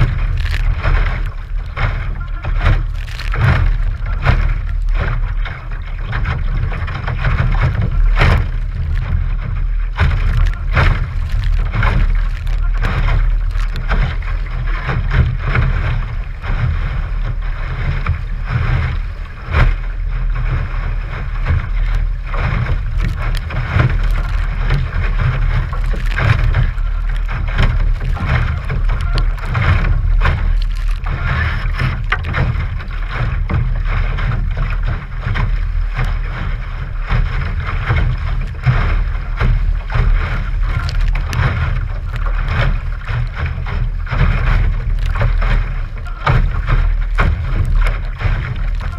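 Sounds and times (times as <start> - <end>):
water splashing against hull: 0.0 - 48.9
wind buffeting microphone: 0.0 - 48.9.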